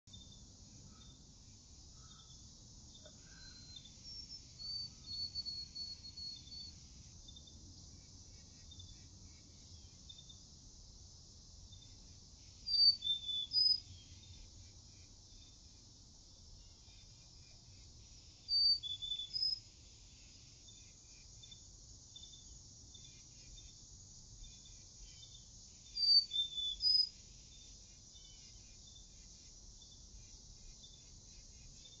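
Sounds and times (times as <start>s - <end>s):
faint background hiss: 0.1s - 32.0s.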